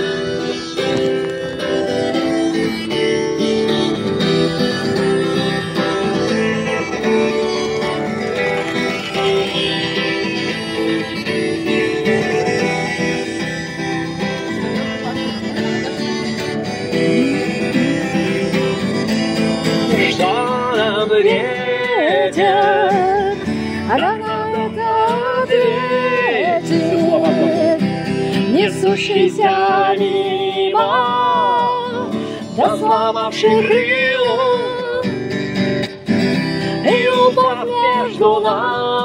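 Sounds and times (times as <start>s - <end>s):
acoustic guitar strummed: 0.0s - 39.0s
wavering melody with vibrato: 0.0s - 39.0s.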